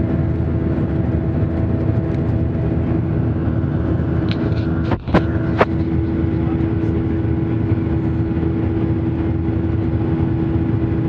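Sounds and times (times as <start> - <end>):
jet cabin engine drone: 0.0 - 11.0.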